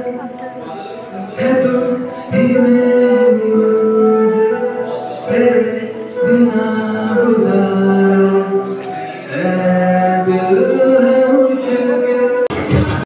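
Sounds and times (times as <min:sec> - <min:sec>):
man singing into microphone: 0:00.9 - 0:13.0.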